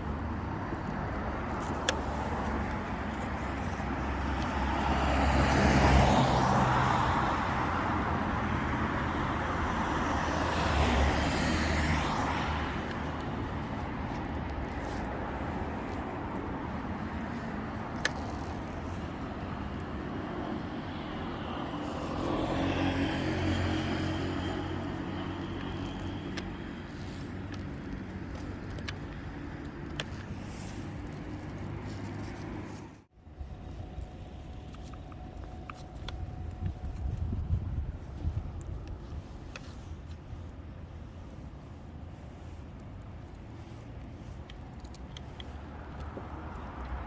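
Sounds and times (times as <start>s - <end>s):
cars passing: 0.0s - 47.0s
steady road noise: 0.0s - 47.0s.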